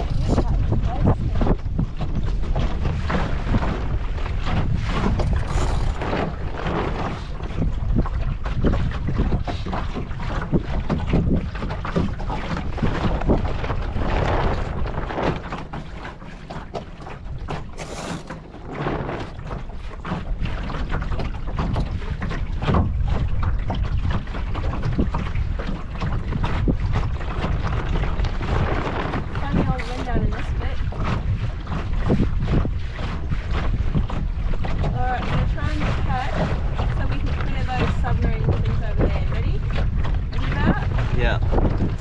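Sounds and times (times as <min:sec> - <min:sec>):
water slapping boat hull: 0:00.0 - 0:42.0
wind buffeting microphone: 0:00.0 - 0:42.0.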